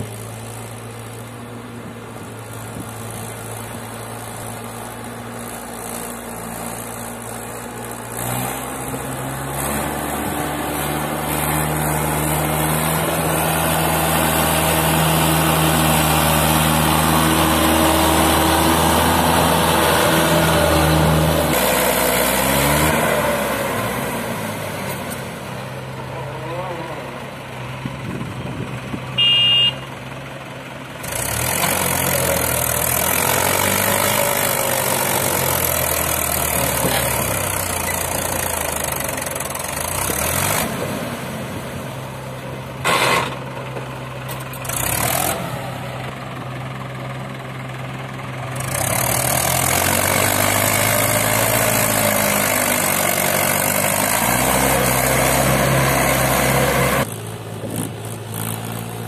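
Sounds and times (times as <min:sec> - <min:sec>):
tractor diesel engine straining: 0:00.0 - 0:59.0.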